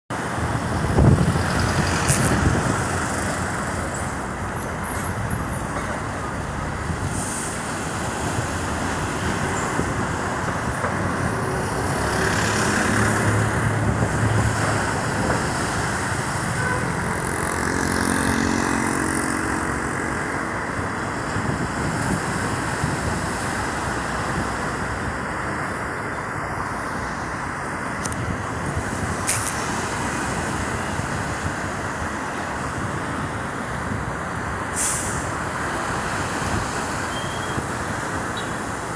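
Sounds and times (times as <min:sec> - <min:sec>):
steady engine rumble: 0:00.1 - 0:36.0
traffic noise: 0:00.1 - 0:38.9.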